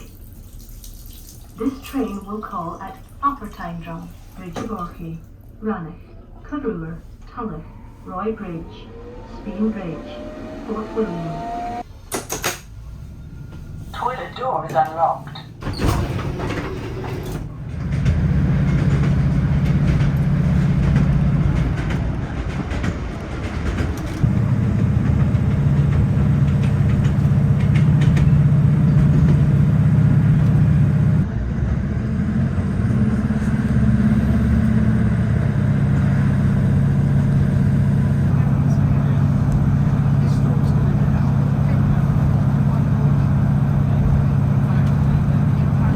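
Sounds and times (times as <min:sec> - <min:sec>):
diesel train engine drone: 0:05.7 - 0:45.9
train wheels rumbling on track: 0:07.1 - 0:13.9, 0:14.7 - 0:45.9.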